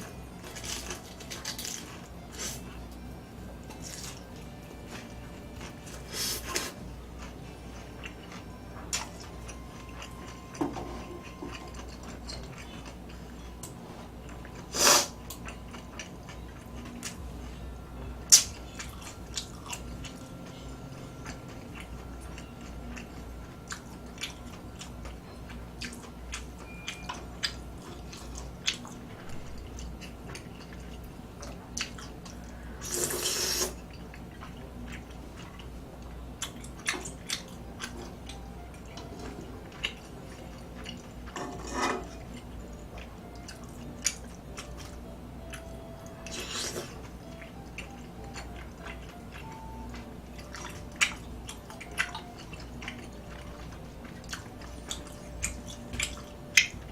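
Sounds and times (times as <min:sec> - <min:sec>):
person chewing: 0:00.1 - 0:17.6, 0:18.2 - 0:56.9.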